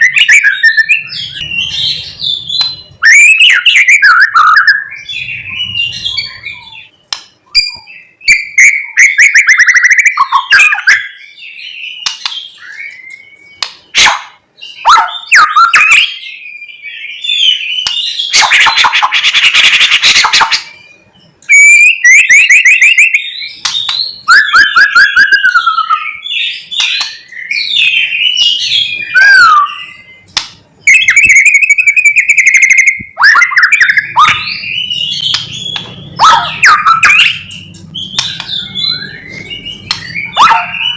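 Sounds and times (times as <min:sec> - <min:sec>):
songbird singing varied phrases: 0:00.0 - 0:40.9.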